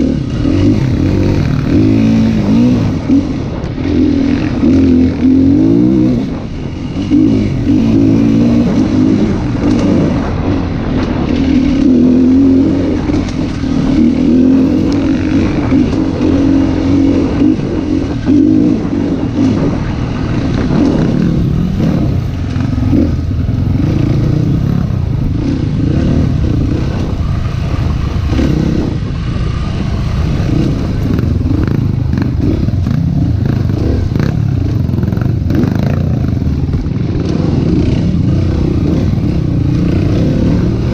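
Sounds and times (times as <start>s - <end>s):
dirt bike engine revving: 0.0s - 40.9s
knocks and rattles over rough ground: 0.0s - 40.9s.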